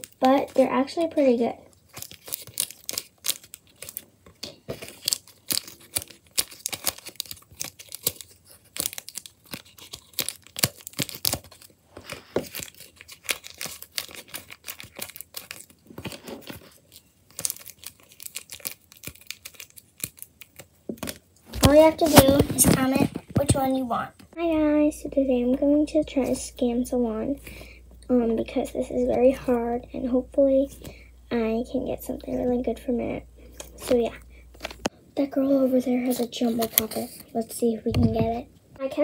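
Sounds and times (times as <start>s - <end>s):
paper crinkling and crackling: 0.0s - 24.4s, 31.7s - 39.0s.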